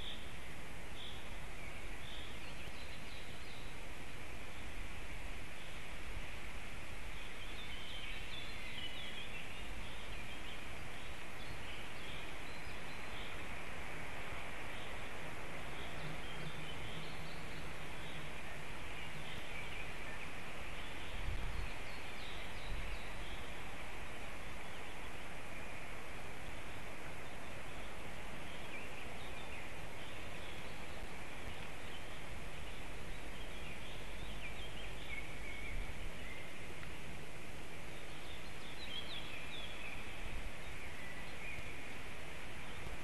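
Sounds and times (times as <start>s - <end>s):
steady forest hiss: 0.0s - 43.0s.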